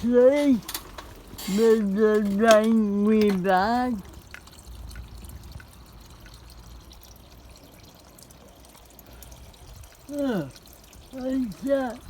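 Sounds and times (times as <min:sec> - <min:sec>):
faint water trickle: 0:00.0 - 0:12.0.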